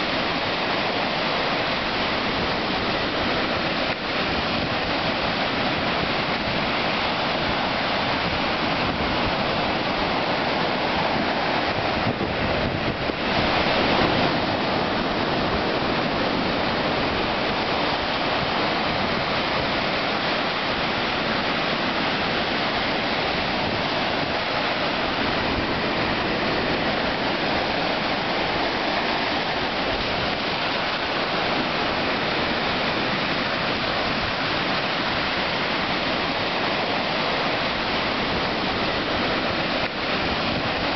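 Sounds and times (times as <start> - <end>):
waves crashing on sand: 0.0 - 40.9.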